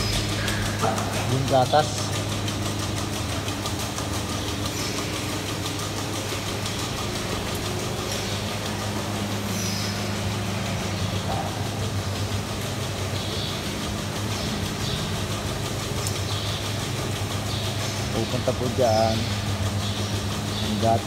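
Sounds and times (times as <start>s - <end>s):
milking machinery humming: 0.0s - 21.0s.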